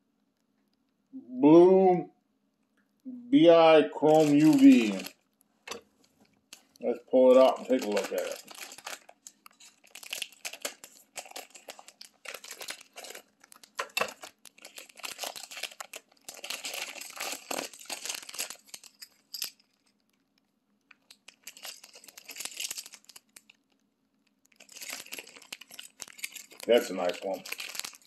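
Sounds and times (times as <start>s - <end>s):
plastic package crinkling: 4.0s - 28.0s.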